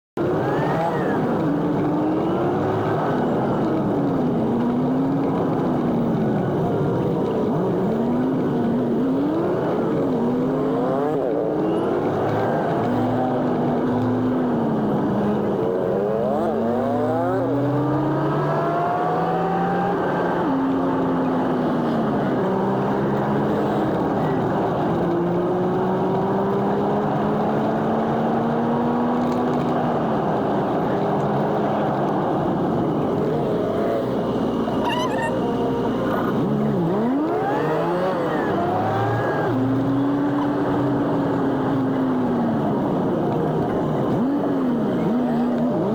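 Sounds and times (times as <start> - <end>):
constant road rumble: 0.1 - 45.9
sped-up vehicle engine: 0.2 - 45.9.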